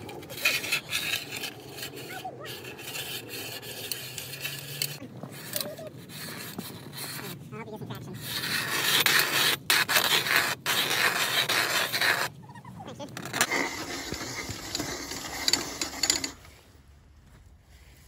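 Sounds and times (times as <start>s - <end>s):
ice auger scraping into ice: 0.0s - 12.3s, 13.2s - 16.6s.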